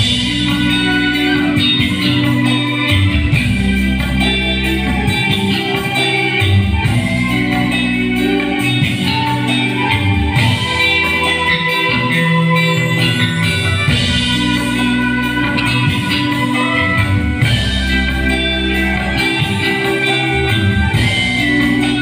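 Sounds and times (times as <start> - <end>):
bass guitar: 0.0 - 22.0
drum kit: 0.0 - 22.0
electric guitars: 0.0 - 22.0
hand drums: 0.0 - 22.0
keyboard: 0.0 - 22.0.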